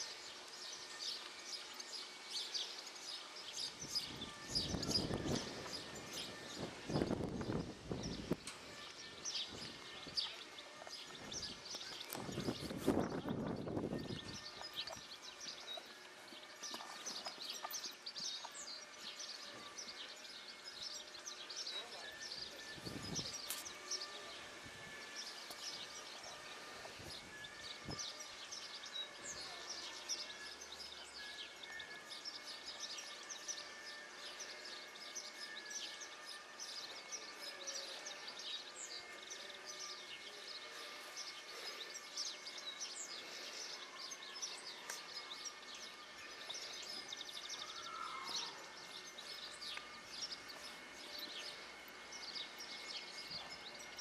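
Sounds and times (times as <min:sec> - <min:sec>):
birds chirping: 0:00.0 - 0:54.0
faint outdoor background noise: 0:00.0 - 0:54.0.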